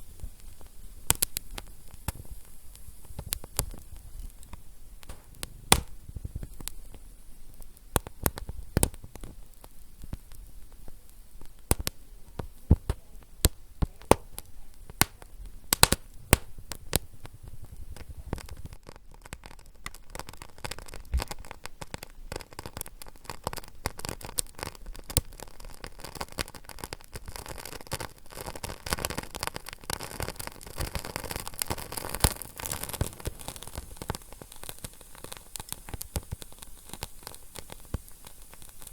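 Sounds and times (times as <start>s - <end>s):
fire crackling and popping: 0.0s - 38.9s
fire hissing: 0.0s - 38.9s.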